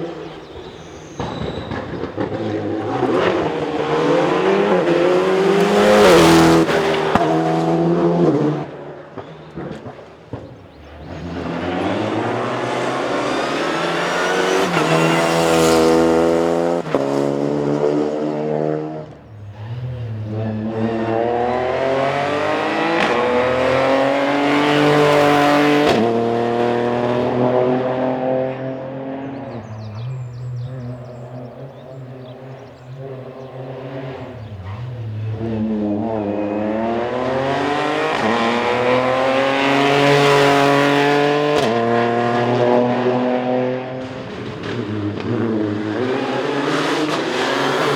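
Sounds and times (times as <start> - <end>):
rally car engines revving: 0.0 - 47.9.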